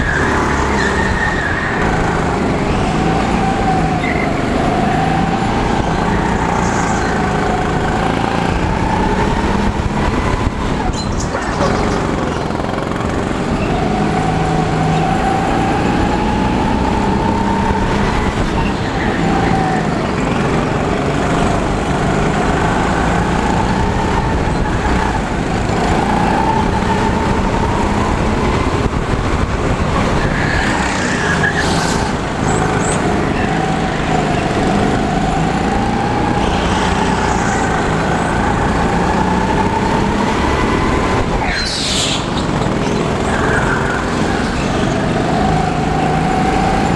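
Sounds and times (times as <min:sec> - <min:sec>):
go-kart motor revving: 0:00.0 - 0:46.9.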